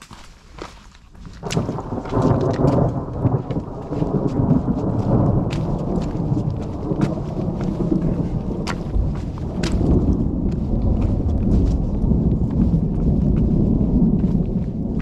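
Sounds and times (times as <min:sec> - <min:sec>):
thunder rumbling: 0:01.4 - 0:15.0.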